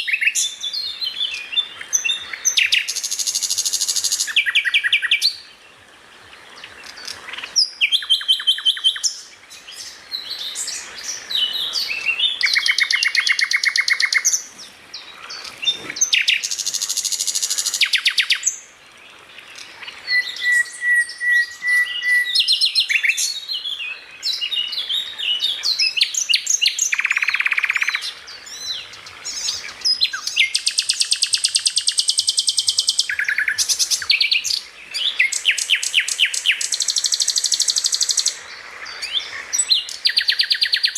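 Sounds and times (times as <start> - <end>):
songbird singing trills and whistles: 0.0 - 5.6, 6.6 - 18.7, 19.4 - 40.9.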